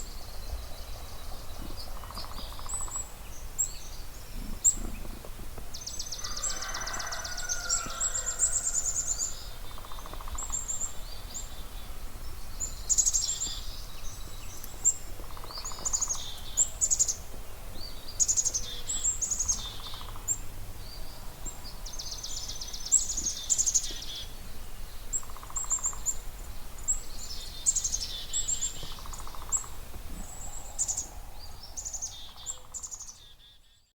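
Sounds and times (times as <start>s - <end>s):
songbirds singing: 0.0s - 33.9s.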